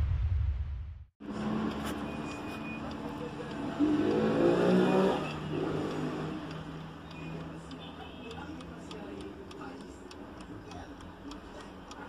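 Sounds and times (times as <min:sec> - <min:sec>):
alarm clocks ticking: 0:01.2 - 0:12.0.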